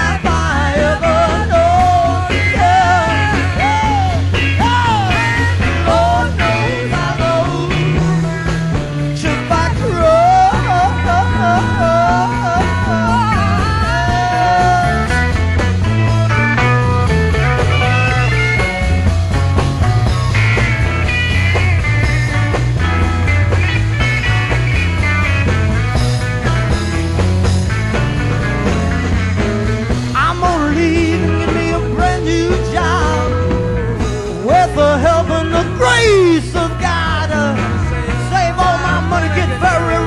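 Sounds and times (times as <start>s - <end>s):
psychedelic rock band playing: 0.0s - 40.0s
wavering lead guitar line: 0.0s - 40.0s.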